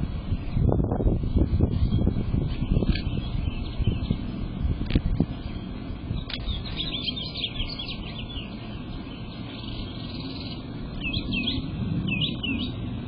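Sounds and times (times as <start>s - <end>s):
steady low rumble: 0.0s - 13.0s
songbirds chirping: 1.3s - 13.0s.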